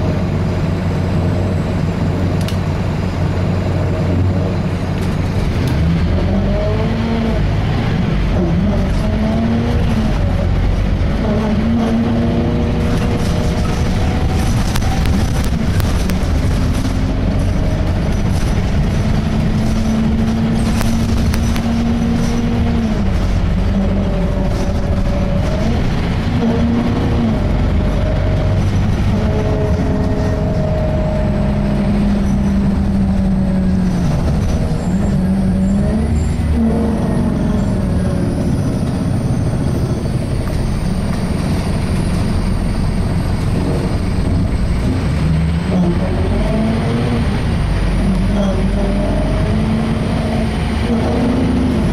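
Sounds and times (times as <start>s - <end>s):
engine and road rumble: 0.0s - 51.9s.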